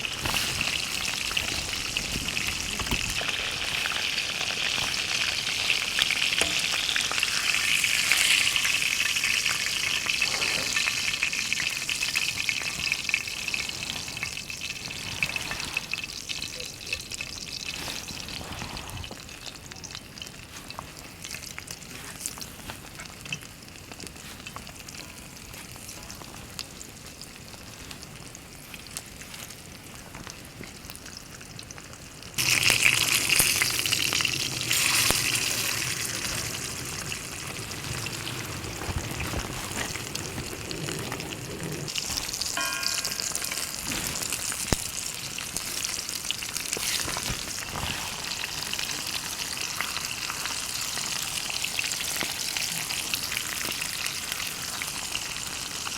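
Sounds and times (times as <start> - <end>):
steak sizzling in a pan: 0.0 - 30.4, 31.0 - 55.9.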